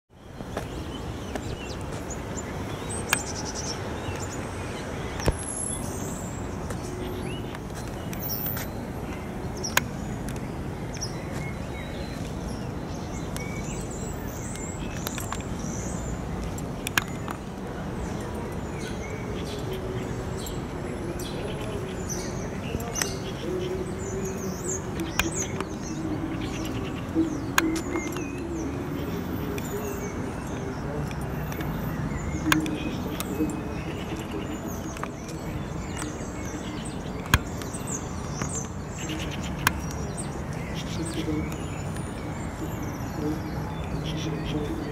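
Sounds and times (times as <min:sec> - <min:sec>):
outdoor background noise: 0:00.1 - 0:44.9
small birds chirping: 0:00.1 - 0:44.9.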